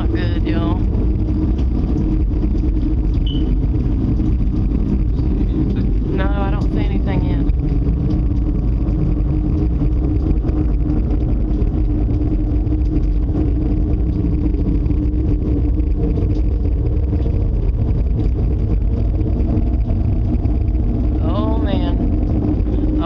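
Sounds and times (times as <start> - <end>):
droning hum: 0.0 - 23.0
low rumbling roar: 0.0 - 23.0.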